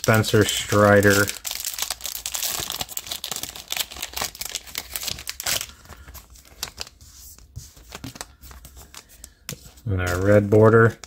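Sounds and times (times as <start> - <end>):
plastic sleeves crinkling: 0.0 - 11.0.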